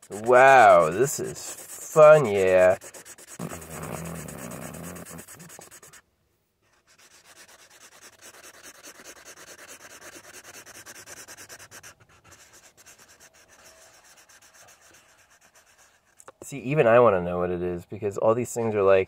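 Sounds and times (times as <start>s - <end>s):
marker scribbling on paper: 0.0s - 6.0s, 6.6s - 16.2s.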